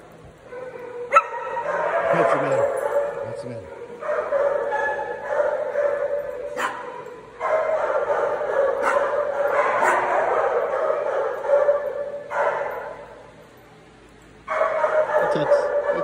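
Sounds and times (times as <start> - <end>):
dogs barking and yipping: 0.4 - 13.5, 14.4 - 16.0.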